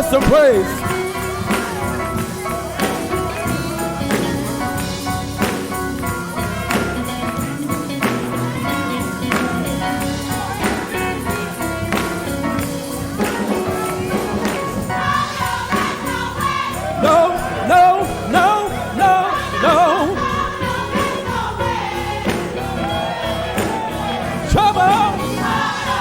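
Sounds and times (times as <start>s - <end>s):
gospel band playing: 0.0s - 26.0s
tambourine: 0.0s - 26.0s.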